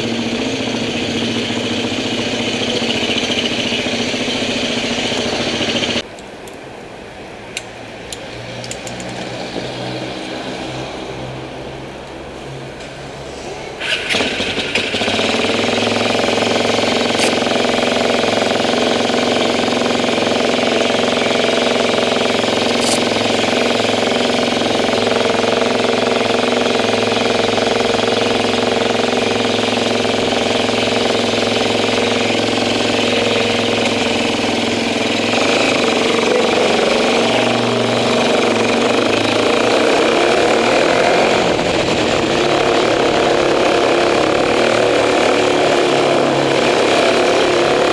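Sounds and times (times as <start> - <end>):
motorcycle engine running: 0.0 - 6.1, 13.8 - 47.9.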